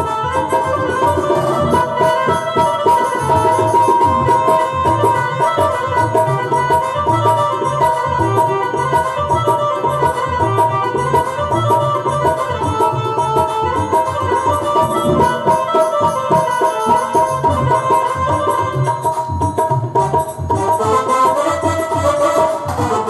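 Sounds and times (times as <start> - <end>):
held melody notes: 0.0 - 23.0
rhythmic hand drum beat: 0.0 - 23.0.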